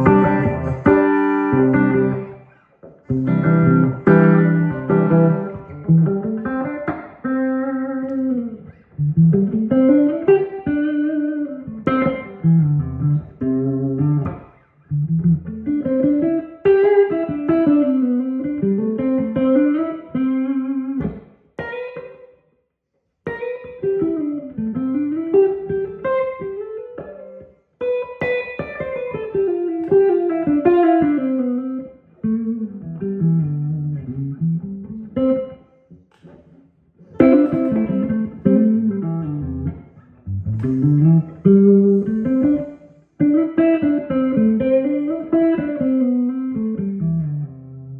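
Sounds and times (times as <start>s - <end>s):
electric guitar lead phrases: 0.0s - 22.4s, 23.2s - 47.9s.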